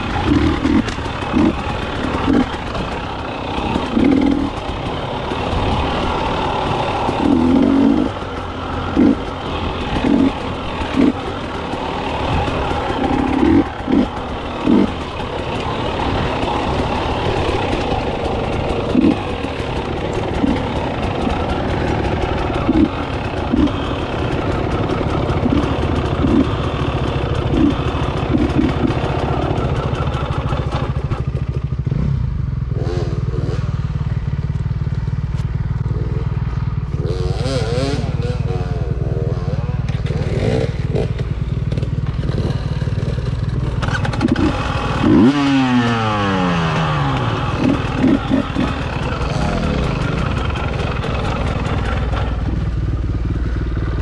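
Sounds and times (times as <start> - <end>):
dirt bike engine surging: 0.0 - 54.0.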